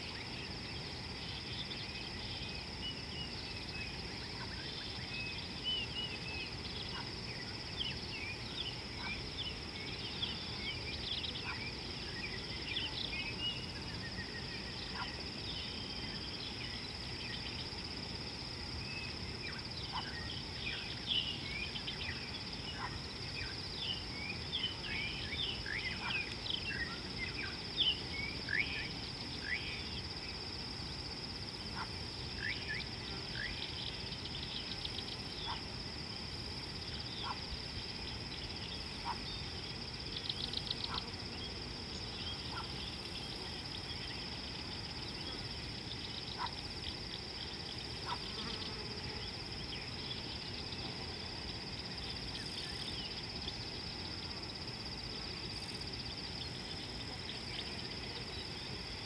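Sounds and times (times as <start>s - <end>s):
high insect drone: 0.0s - 59.0s
low background hiss: 0.0s - 59.0s.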